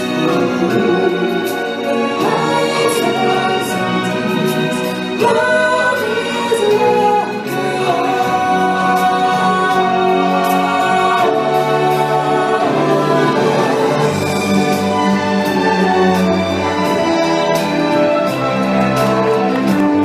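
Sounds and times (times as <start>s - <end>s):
choir singing held notes: 0.0s - 20.0s
orchestral accompaniment: 0.0s - 20.0s.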